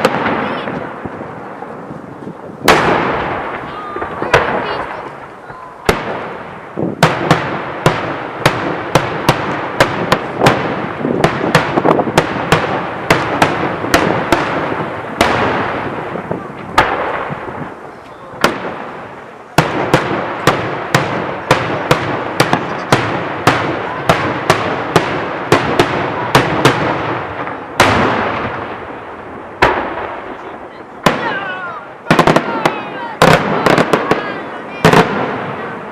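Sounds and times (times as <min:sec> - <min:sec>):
echoing rumble: 0:00.0 - 0:35.9
firework bangs: 0:00.0 - 0:35.9.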